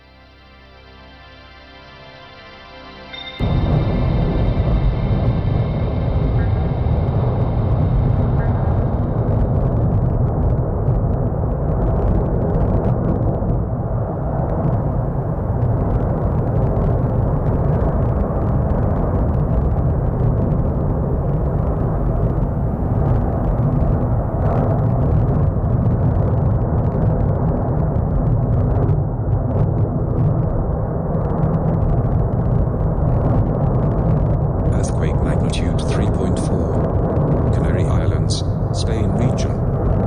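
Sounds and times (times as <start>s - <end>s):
volcano rumbling: 3.4s - 40.0s.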